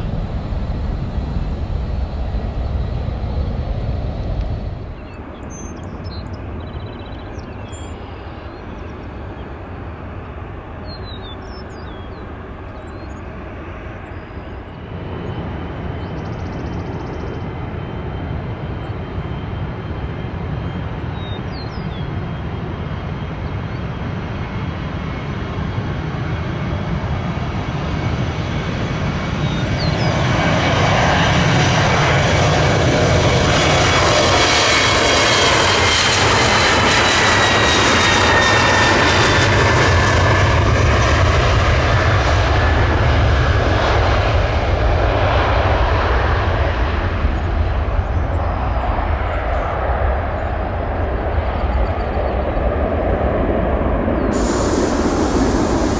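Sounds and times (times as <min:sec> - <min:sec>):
jet airliner passing: 0:00.0 - 0:55.9.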